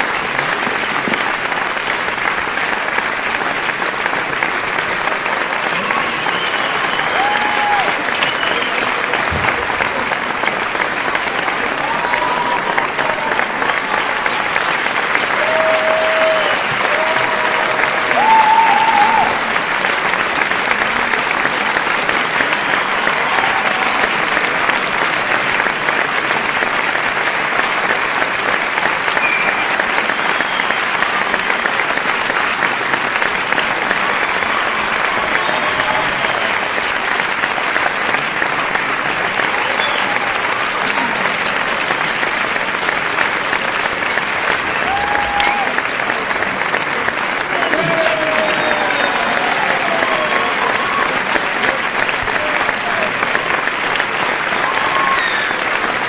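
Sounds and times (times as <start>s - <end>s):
crowd applauding: 0.0s - 56.0s.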